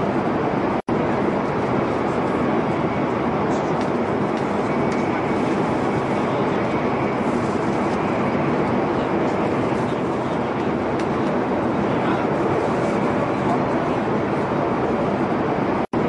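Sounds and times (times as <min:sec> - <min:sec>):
metro train running: 0:00.0 - 0:16.0.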